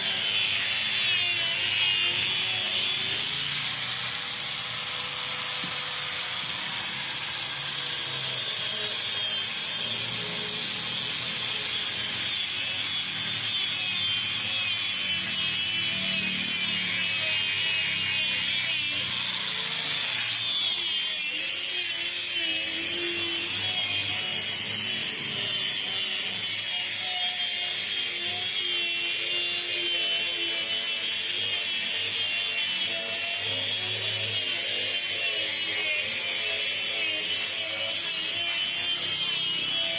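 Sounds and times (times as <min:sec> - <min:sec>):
power tool whining on wood: 0:00.0 - 0:39.9.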